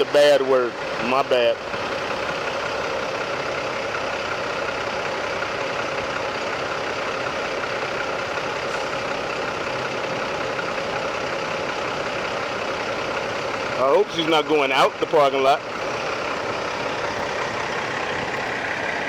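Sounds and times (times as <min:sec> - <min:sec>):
diesel truck engines idling: 0:00.0 - 0:19.0.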